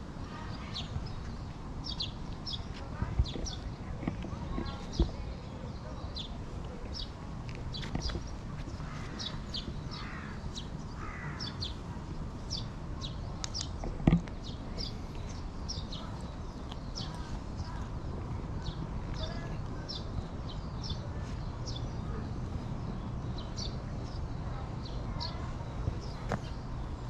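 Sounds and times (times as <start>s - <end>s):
birds chirping: 0.0s - 27.0s
harsh low bird calls: 0.1s - 27.0s.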